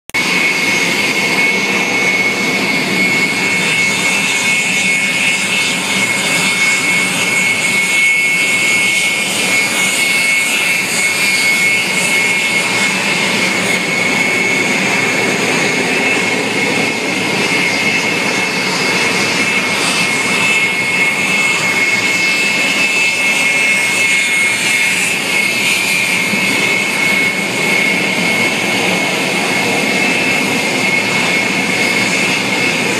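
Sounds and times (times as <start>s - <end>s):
jet turbine whine: 0.2s - 32.9s
rushing jet exhaust: 0.2s - 32.9s.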